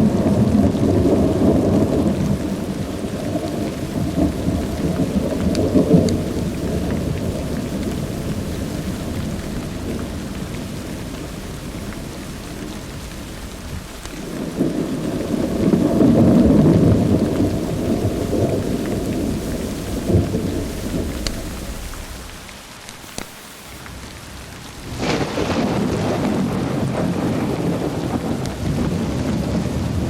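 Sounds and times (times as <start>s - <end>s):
rolling thunder rumble: 0.0s - 22.4s, 24.4s - 30.0s
steady rain: 0.0s - 30.0s.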